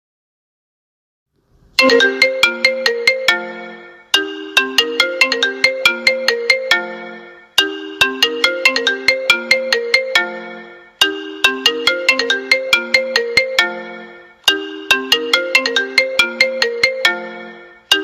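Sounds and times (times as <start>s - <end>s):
mallet-like ringtone melody: 1.8s - 18.0s.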